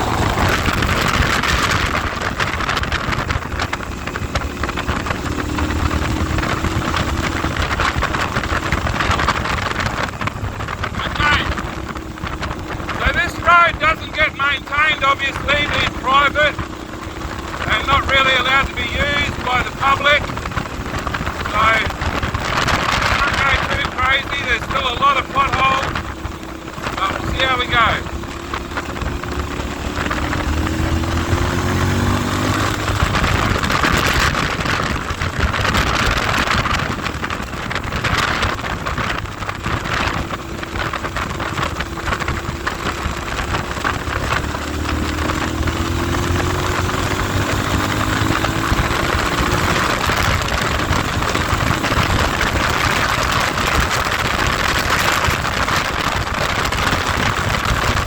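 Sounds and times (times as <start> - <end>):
motorcycle engine running: 0.0 - 58.0
wind buffeting on microphone: 0.0 - 58.0.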